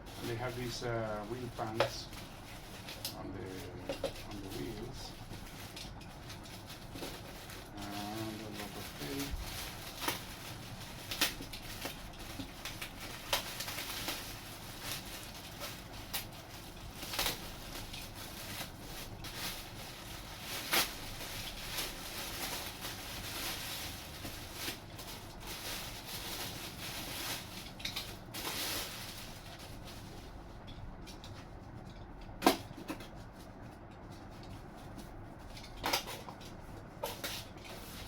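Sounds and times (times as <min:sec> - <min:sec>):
packaging rustling and tape peeling: 0:00.0 - 0:38.0.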